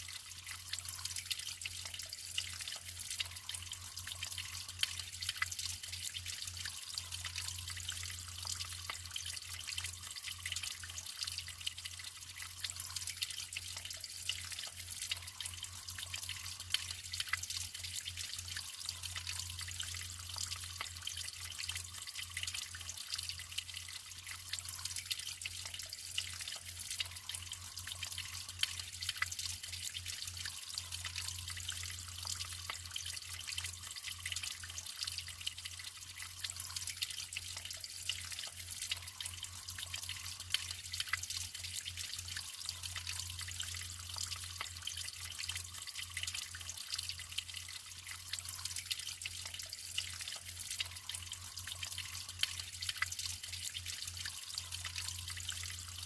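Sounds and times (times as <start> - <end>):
continuous low hum: 0.0 - 56.0
water trickling and splashing: 0.0 - 56.0.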